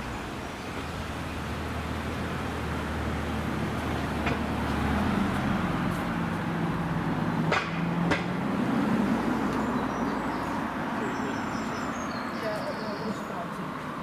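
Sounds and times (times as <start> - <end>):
car engine humming: 0.0 - 14.0
road noise: 0.0 - 14.0.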